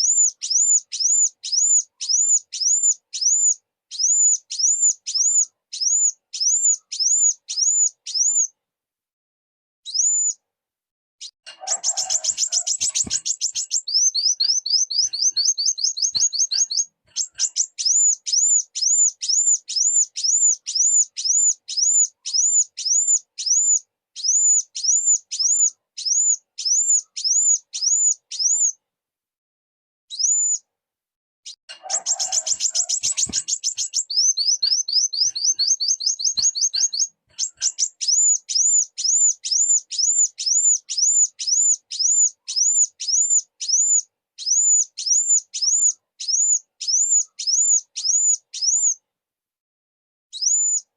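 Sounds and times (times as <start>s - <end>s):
sunbird song trills and whistles: 0.0s - 8.6s, 9.8s - 10.4s, 11.2s - 28.8s, 30.1s - 30.7s, 31.5s - 49.0s, 50.3s - 50.9s.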